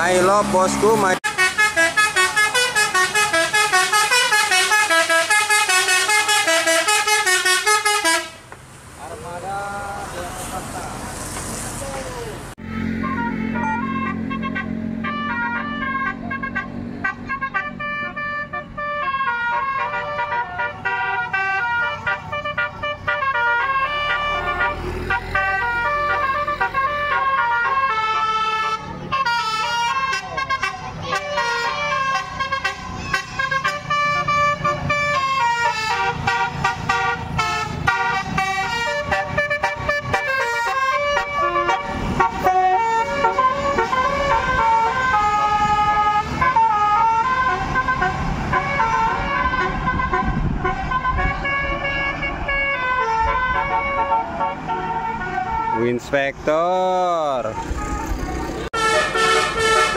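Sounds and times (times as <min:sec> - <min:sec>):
bus engine running: 0:00.0 - 0:55.8, 0:56.4 - 0:59.9
musical air horn playing a tune: 0:01.2 - 0:08.4, 0:12.6 - 0:56.0, 0:57.4 - 0:59.9.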